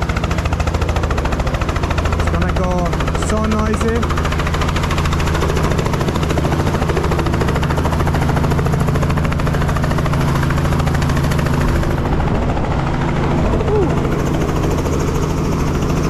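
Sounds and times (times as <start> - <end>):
helicopter rotor chopping: 0.0 - 16.0
piston engine drone: 0.0 - 16.0.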